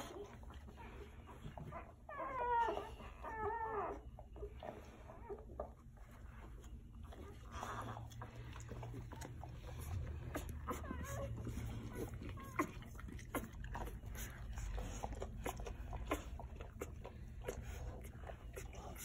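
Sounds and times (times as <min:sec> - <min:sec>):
low steady hum: 0:00.0 - 0:19.0
puppies suckling: 0:00.0 - 0:19.0
puppy whining: 0:00.0 - 0:19.0.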